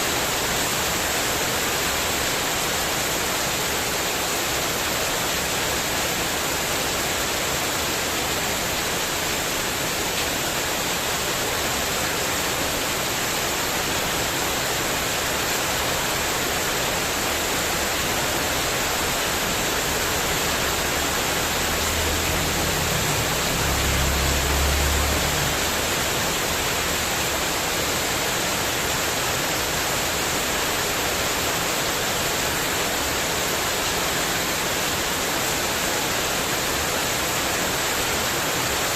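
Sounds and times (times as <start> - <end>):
heavy rain on metal roof: 0.0 - 38.9.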